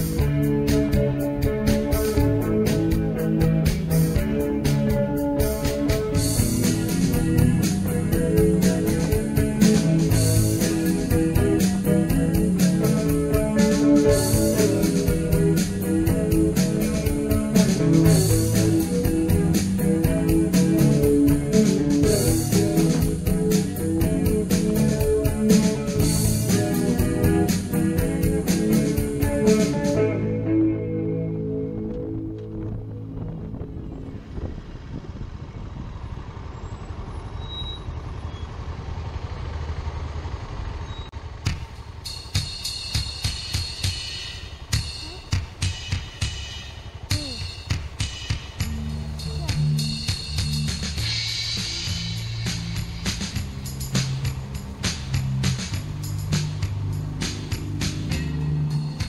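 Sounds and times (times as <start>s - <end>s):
guitar music with drum beat: 0.0s - 33.8s, 41.4s - 59.0s
motorcycle engine running: 0.0s - 59.0s
road and wind noise: 0.0s - 59.0s.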